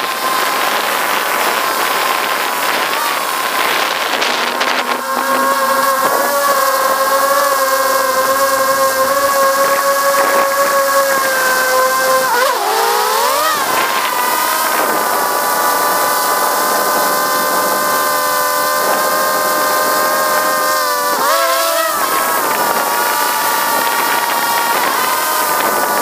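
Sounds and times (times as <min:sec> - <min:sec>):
drone propellers whining: 0:00.0 - 0:26.0.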